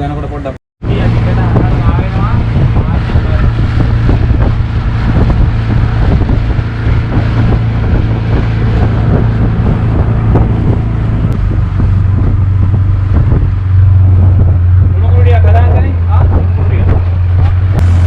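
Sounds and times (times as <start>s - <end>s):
engine humming: 0.0s - 18.0s
wind buffeting microphone: 0.8s - 18.0s.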